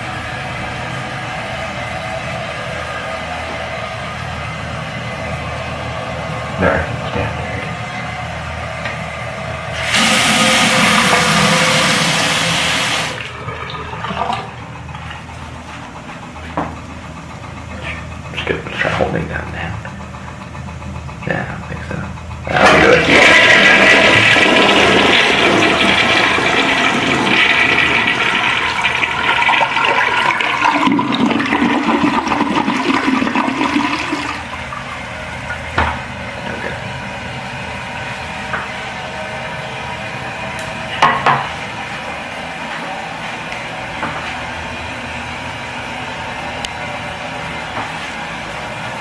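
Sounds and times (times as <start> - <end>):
toilet flushing: 0.0 - 49.0
water running into tank: 0.0 - 49.0.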